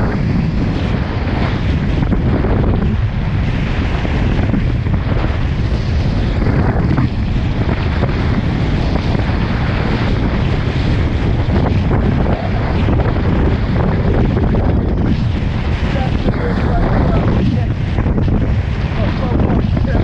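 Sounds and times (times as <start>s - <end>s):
water rushing past hulls: 0.0s - 20.0s
wind buffeting microphone: 0.0s - 20.0s.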